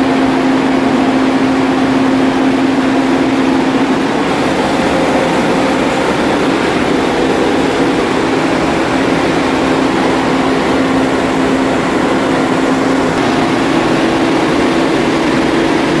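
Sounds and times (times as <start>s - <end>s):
diesel generator running: 0.0s - 16.0s.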